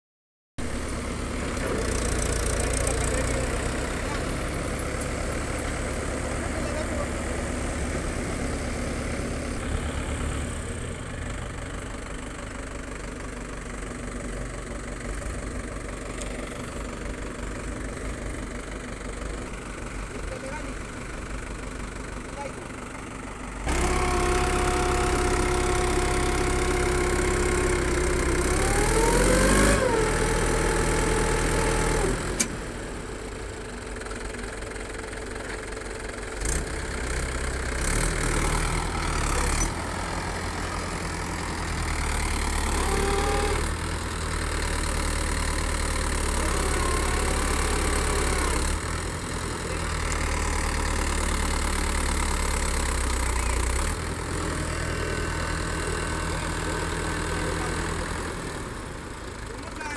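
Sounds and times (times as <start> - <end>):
tractor diesel engines: 0.6 - 59.9.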